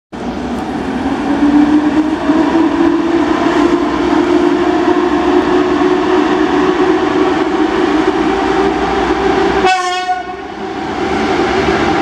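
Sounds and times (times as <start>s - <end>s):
train rumble: 0.1s - 12.0s.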